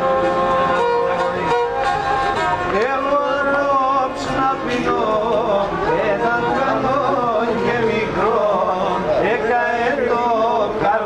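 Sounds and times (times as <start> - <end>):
bowed fiddle folk melody: 0.0 - 11.0.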